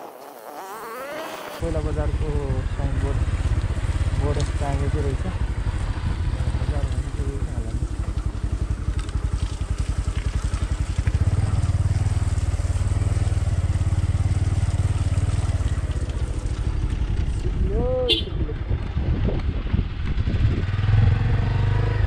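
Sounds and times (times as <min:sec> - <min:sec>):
vehicle engine running: 0:00.8 - 0:22.0.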